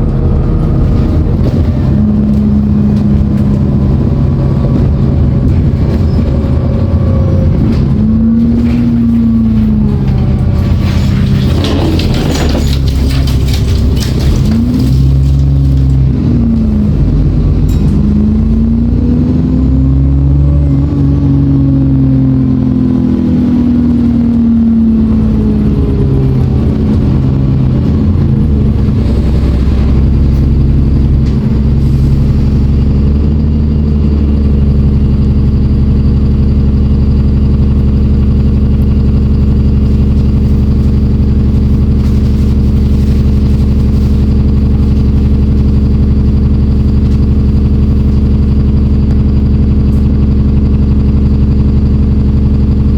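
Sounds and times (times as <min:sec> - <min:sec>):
bus diesel engine revving: 0:00.0 - 0:52.9
faint turbo whine: 0:00.0 - 0:52.9.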